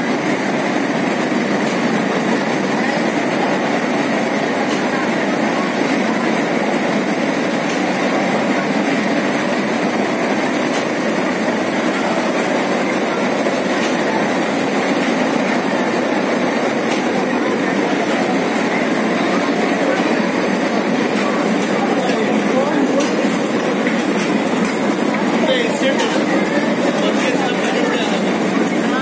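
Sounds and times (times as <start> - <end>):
machinery rattling: 0.1 - 29.0.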